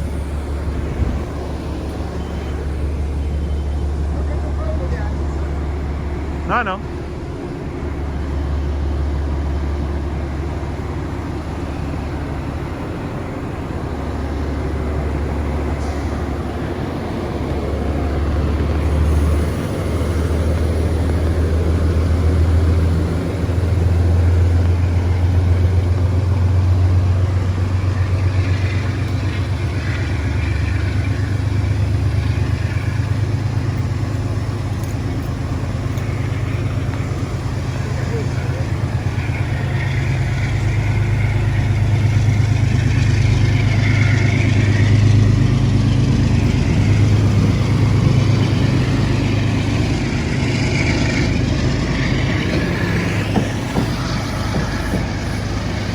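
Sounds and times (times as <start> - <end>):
train engine hum: 0.0 - 55.9.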